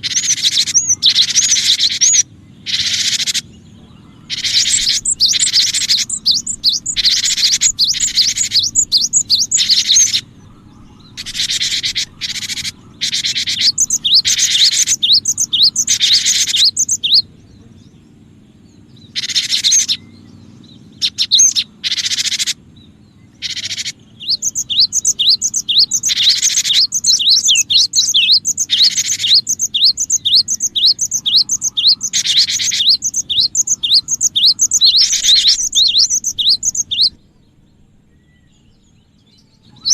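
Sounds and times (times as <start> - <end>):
bird chirping: 0.0 - 39.9
steady low hum: 0.0 - 39.9.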